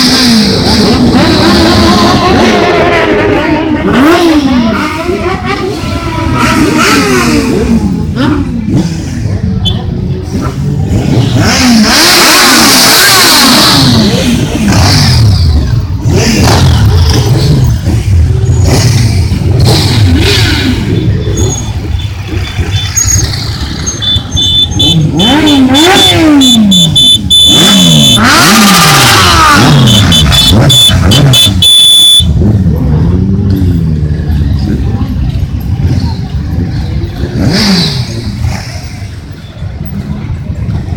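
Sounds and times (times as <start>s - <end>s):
motorcycle engines revving past: 0.0s - 26.8s, 27.5s - 31.4s, 32.3s - 40.9s.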